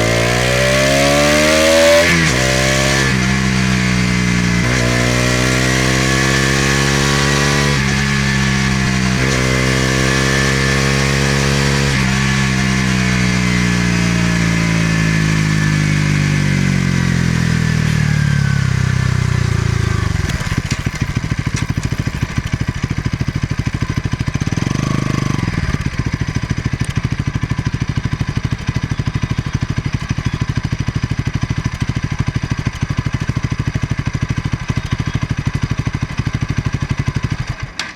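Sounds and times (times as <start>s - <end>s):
motorcycle engine and exhaust: 0.0s - 37.9s.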